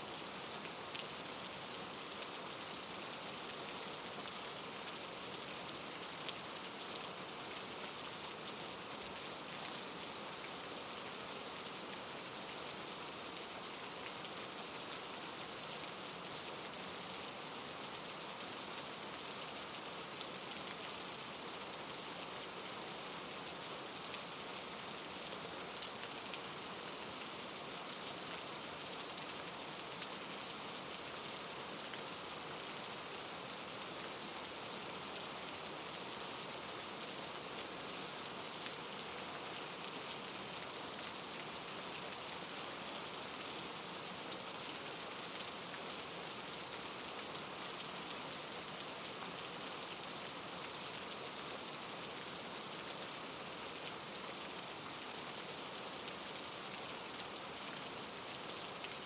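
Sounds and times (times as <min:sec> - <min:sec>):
soft rain pattering: 0:00.0 - 0:59.0.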